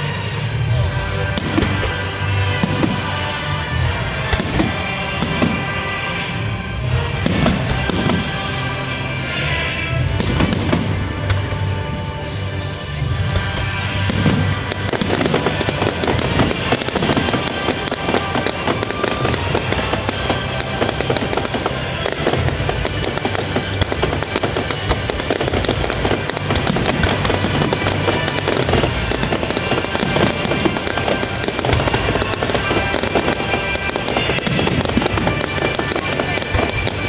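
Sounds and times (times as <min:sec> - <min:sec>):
fireworks crackling and popping: 0:00.0 - 0:37.0
music playing: 0:00.0 - 0:37.0.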